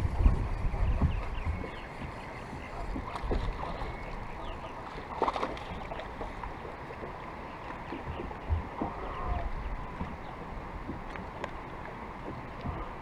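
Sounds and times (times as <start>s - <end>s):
water slapping against boat hull: 0.0s - 13.0s
wind buffeting microphone: 0.0s - 13.0s.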